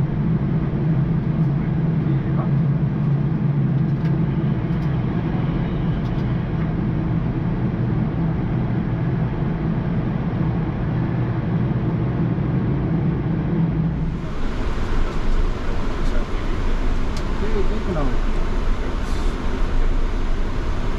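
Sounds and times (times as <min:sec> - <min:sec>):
aircraft cockpit air rush and drone: 0:00.0 - 0:20.9.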